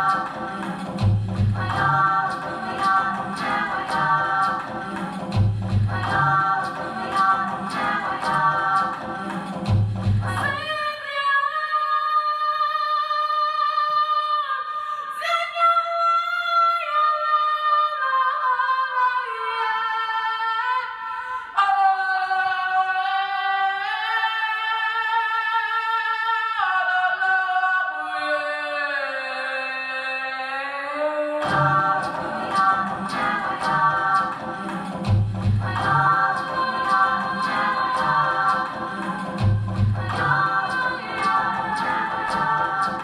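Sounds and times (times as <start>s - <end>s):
women singing a cappella: 0.0s - 43.0s.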